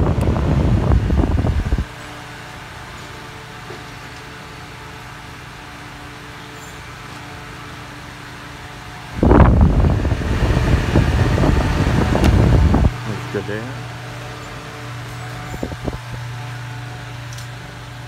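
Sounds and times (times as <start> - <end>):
fan motor hum: 0.0 - 18.0
fan wind buffeting microphone: 0.0 - 18.0.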